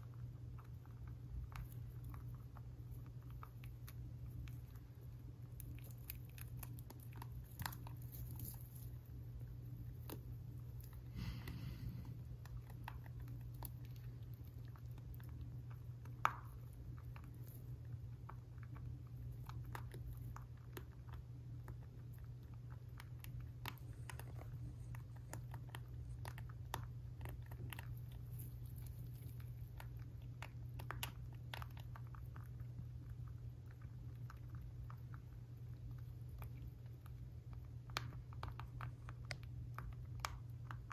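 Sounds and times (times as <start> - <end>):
rabbit chewing pellets: 0.0 - 40.9.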